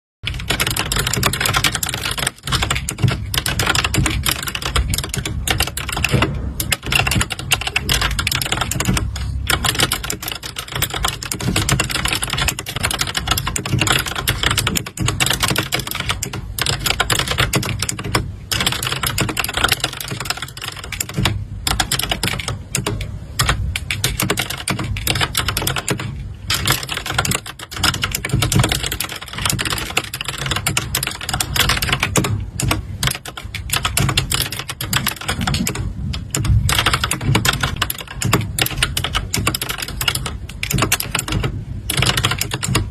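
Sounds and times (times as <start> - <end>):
computer keyboard typing: 0.2 - 42.9.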